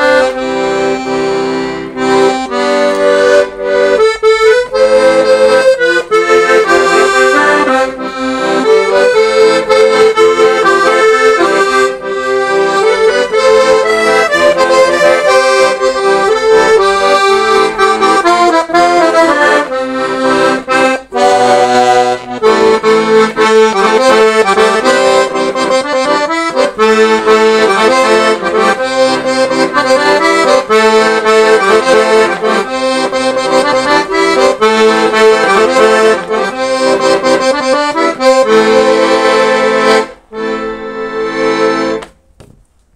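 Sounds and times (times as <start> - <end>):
accordion playing a tune: 0.0 - 42.1.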